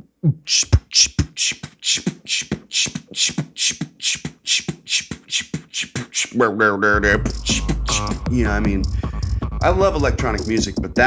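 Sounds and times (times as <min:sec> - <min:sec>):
beatboxing kick-drum thumps: 0:00.2 - 0:06.4, 0:07.0 - 0:11.0
beatboxing hissing hi-hats: 0:00.5 - 0:06.4, 0:07.0 - 0:11.0.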